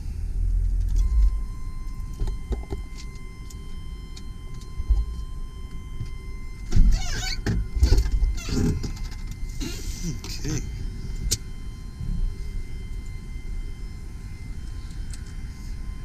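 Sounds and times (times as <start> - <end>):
electronic warning tone: 0.8 - 16.0.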